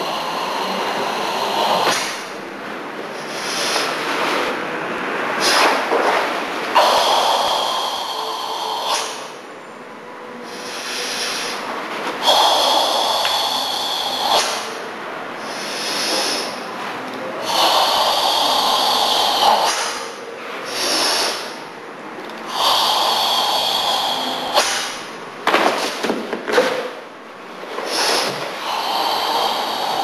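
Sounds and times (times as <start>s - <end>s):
deep forceful breathing: 0.0s - 30.0s.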